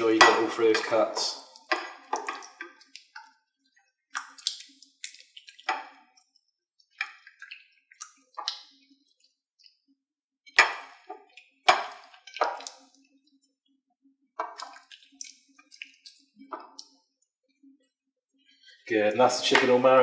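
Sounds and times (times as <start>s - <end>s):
hands squishing wet marinade: 0.0s - 13.6s, 14.3s - 17.8s, 18.4s - 20.0s.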